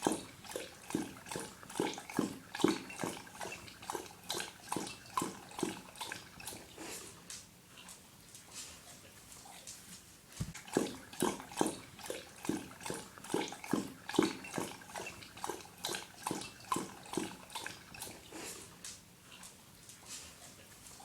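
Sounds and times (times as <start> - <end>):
dog lapping water: 0.0 - 9.2, 10.4 - 21.0.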